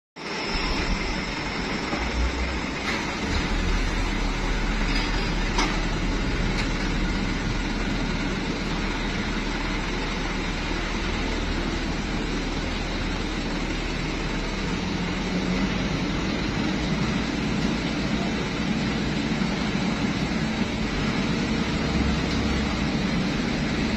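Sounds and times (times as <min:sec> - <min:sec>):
diesel engine humming: 0:00.2 - 0:23.9.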